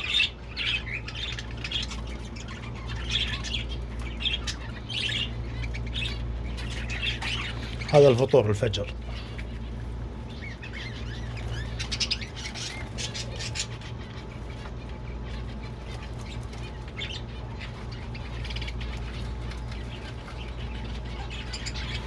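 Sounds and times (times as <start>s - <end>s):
caged birds chirping: 0.0s - 22.0s
steady low hum: 0.0s - 22.0s.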